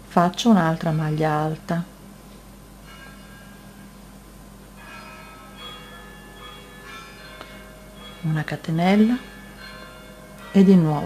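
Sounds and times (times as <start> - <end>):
low steady hum: 0.0 - 11.0
faint bells ringing: 0.5 - 1.9, 2.7 - 11.0.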